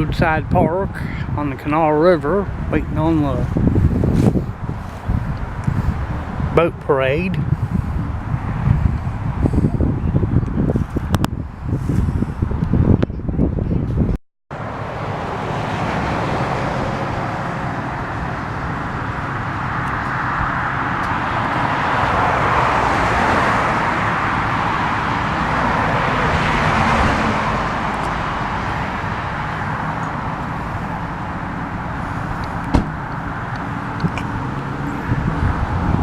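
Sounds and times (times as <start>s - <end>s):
cars passing: 0.0s - 13.4s, 14.5s - 36.0s.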